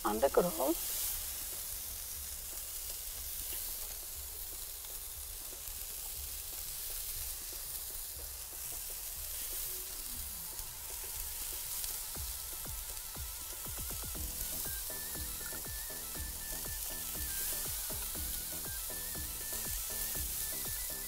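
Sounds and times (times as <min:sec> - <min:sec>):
skewers sizzling on grill: 0:00.0 - 0:21.0.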